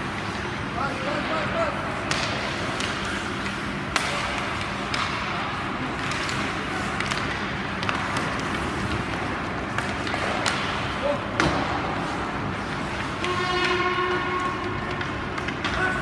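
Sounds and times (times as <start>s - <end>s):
hockey sticks and puck knocking: 0.0s - 16.0s.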